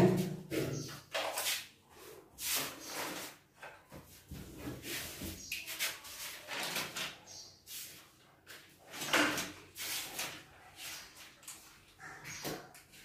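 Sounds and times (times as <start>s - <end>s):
rubbing and scraping handling noise: 0.0s - 13.0s.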